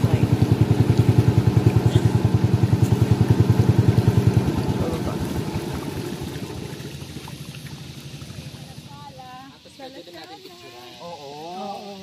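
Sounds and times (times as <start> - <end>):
boat engine chugging: 0.0 - 11.8.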